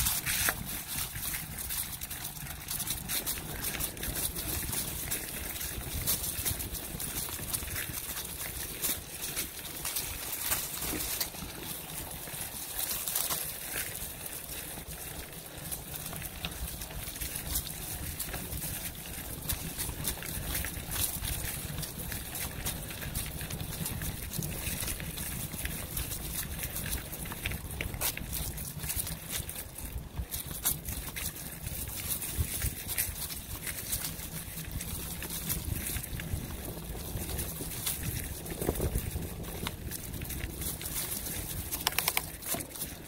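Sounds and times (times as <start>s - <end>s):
tyres crackling through dry leaves: 0.0s - 43.0s.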